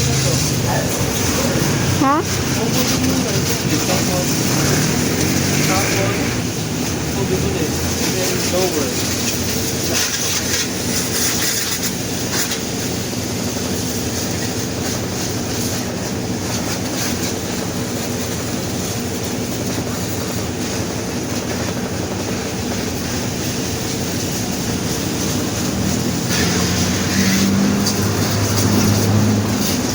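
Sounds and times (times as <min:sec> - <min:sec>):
car wash machinery rumbling: 0:00.0 - 0:29.9
water spraying: 0:00.0 - 0:29.9.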